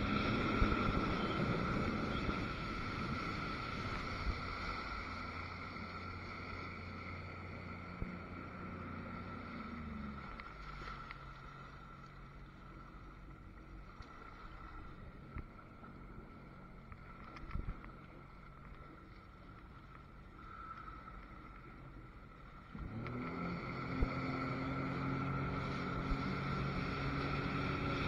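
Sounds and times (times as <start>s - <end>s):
jet ski engine idling: 0.0s - 13.9s, 18.0s - 28.0s
steady whine: 0.0s - 28.0s.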